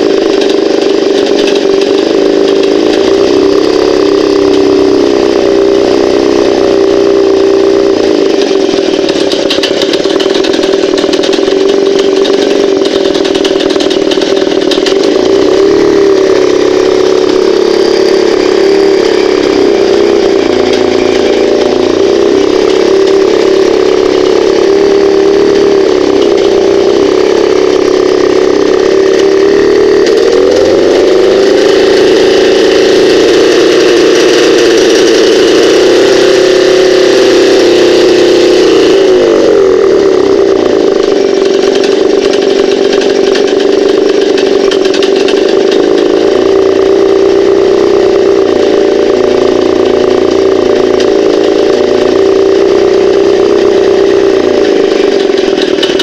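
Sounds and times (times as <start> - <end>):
engine knocking and ringing: 0.0 - 56.0
outboard motor running: 0.0 - 56.0.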